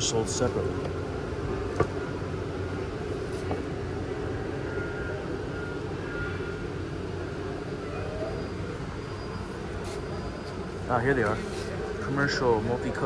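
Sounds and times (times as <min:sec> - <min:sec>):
store background rumble and hum: 0:00.0 - 0:13.0.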